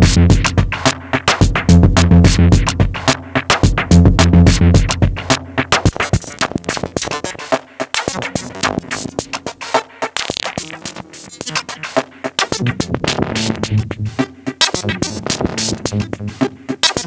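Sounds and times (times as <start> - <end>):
drum machine beat: 0.0 - 17.0.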